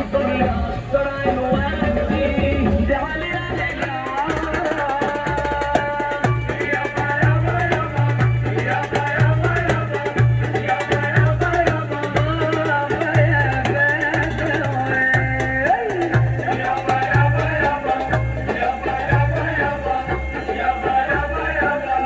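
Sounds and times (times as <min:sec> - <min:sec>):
music with drum beat and bass: 0:00.0 - 0:22.0.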